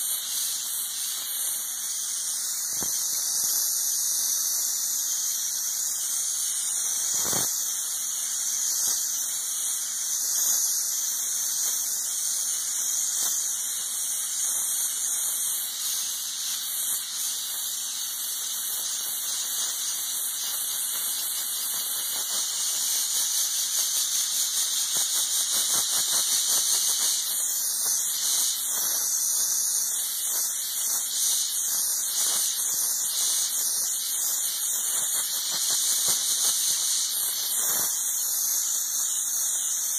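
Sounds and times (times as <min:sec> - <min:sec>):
steam cleaner hissing: 0:00.0 - 0:39.9.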